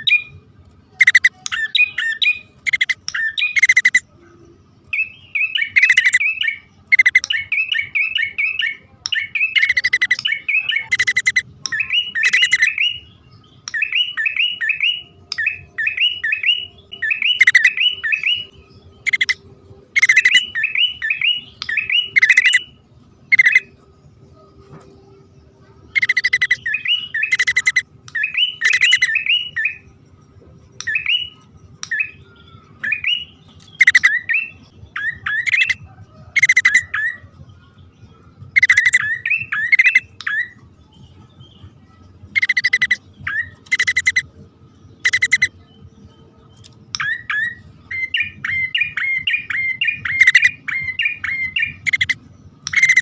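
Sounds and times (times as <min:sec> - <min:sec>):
birds rattling and chirping: 0:00.0 - 0:53.0.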